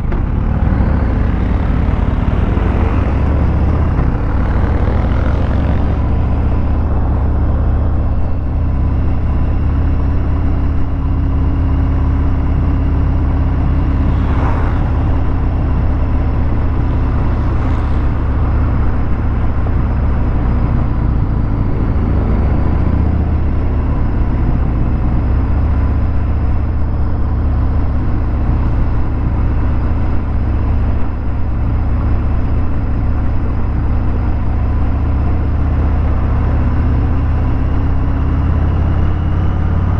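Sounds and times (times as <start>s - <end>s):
motorcycle engine low pulse: 0.0s - 39.9s
road and wind noise: 0.0s - 39.9s.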